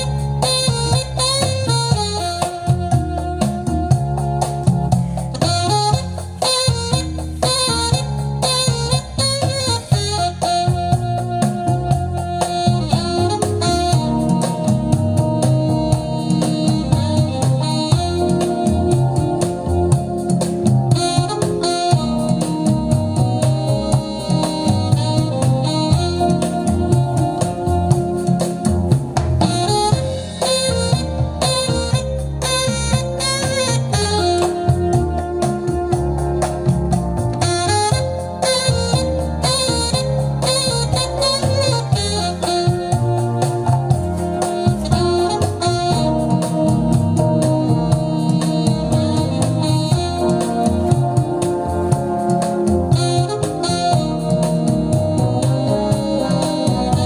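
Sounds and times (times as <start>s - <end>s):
instrumental music over loudspeakers: 0.0s - 57.0s.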